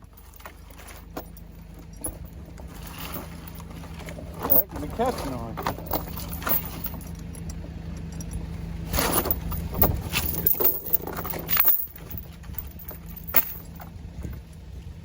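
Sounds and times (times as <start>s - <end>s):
chain rattling and clanking: 0.0s - 14.6s
heavy machine engine running: 0.0s - 15.0s.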